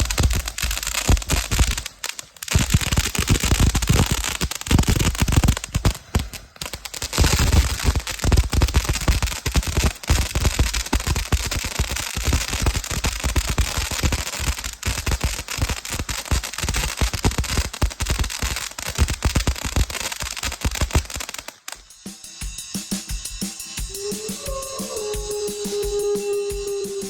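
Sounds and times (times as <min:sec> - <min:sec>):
firework fountain crackling and hissing: 0:00.0 - 0:27.0.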